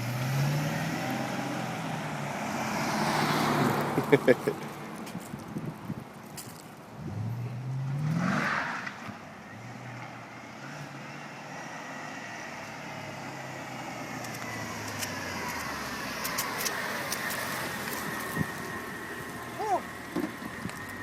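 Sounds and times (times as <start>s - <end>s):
car engine revving: 0.0s - 4.6s, 7.0s - 21.0s.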